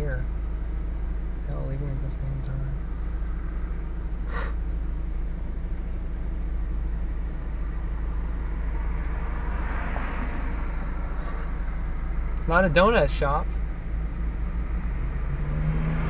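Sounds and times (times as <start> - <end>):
car engine idling: 0.0 - 16.0
traffic noise: 0.0 - 16.0.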